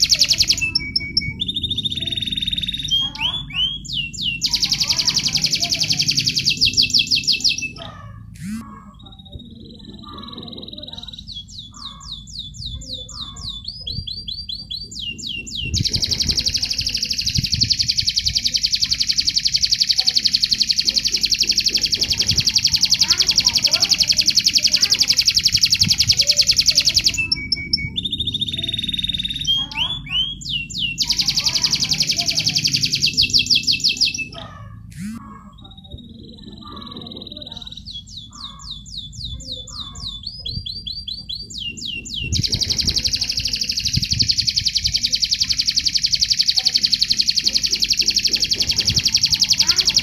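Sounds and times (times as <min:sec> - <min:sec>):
canary singing rapid trills: 0:00.0 - 0:50.0.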